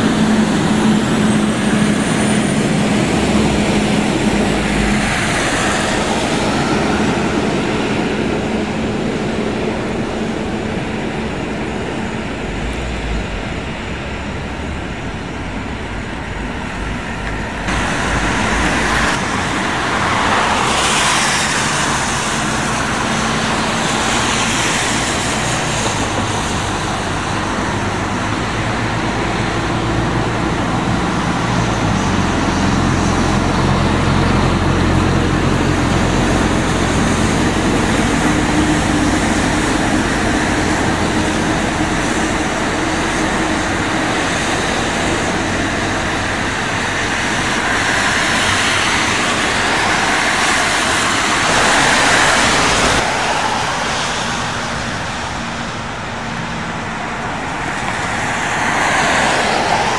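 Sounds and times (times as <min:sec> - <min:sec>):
bus engines running: 0:00.0 - 0:59.9.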